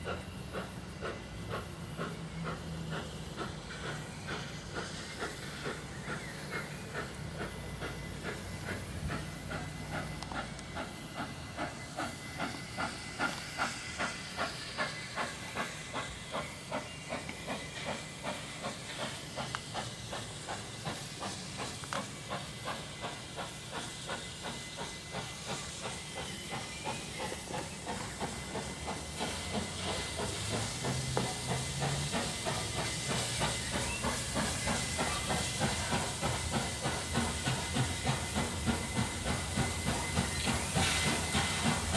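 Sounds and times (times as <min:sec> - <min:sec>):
steam hissing: 0:00.0 - 0:41.9
steam locomotive exhaust beats: 0:00.0 - 0:41.9.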